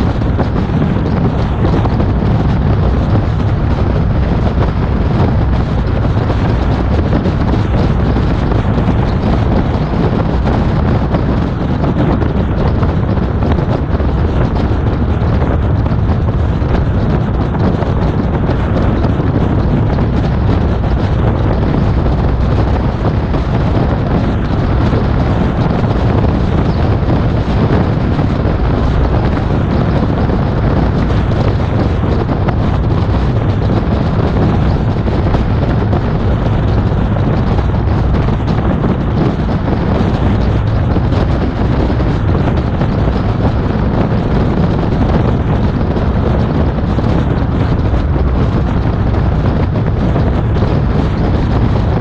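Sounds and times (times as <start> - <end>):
wind rushing on microphone: 0.0 - 52.0.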